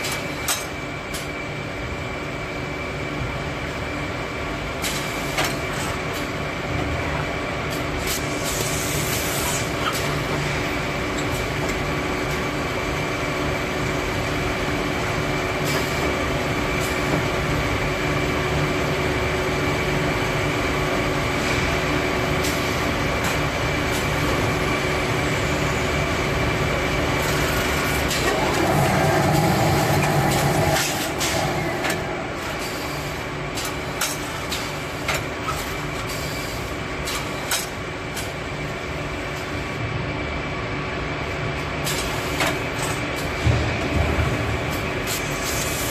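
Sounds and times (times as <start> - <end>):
machine mechanical hum: 0.0 - 45.9
loud machine rumble: 6.0 - 37.0, 37.8 - 45.9.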